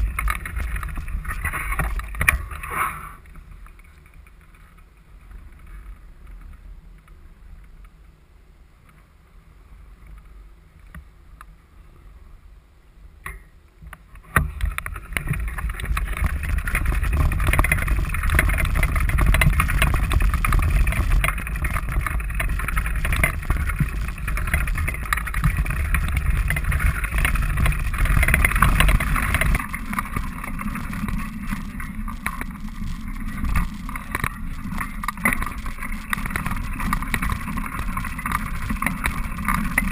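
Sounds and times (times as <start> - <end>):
bicycle rattling on dirt path: 0.0 - 8.1, 13.9 - 39.9.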